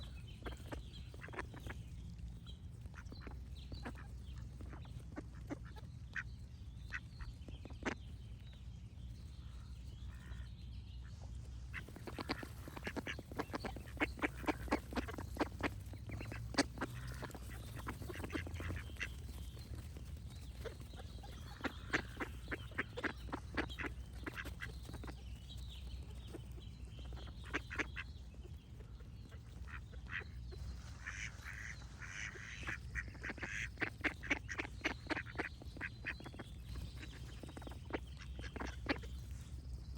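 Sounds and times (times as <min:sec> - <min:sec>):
ducks quacking: 0:00.0 - 0:02.0, 0:02.8 - 0:08.2, 0:09.5 - 0:39.6
birds singing: 0:00.0 - 0:39.9
high bird chatter: 0:00.0 - 0:39.9
steady low hum: 0:00.0 - 0:39.9.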